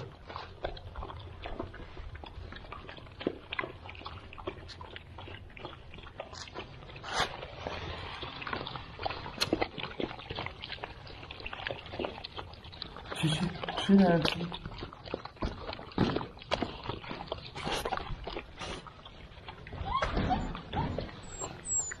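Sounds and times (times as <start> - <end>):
puppies crunching dry kibble: 0.0 - 19.9.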